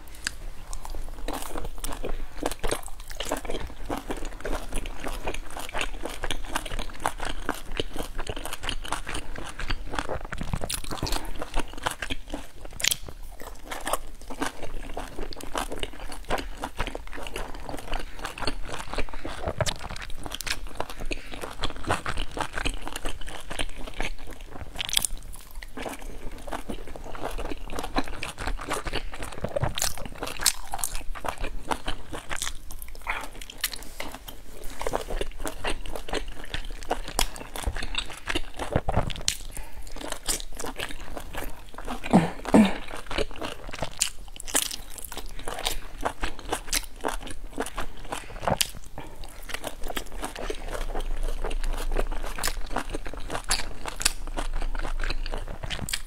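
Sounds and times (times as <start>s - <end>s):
person chewing dumplings: 0.0s - 56.0s.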